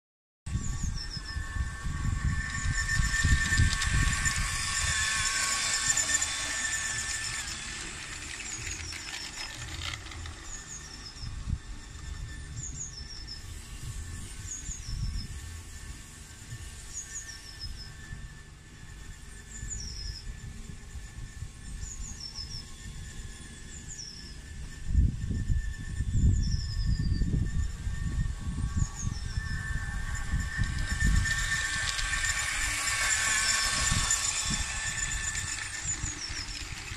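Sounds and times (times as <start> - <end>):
model locomotive squealing on track: 0.5 - 18.4, 21.7 - 36.9
wind rumble on microphone: 0.5 - 36.9.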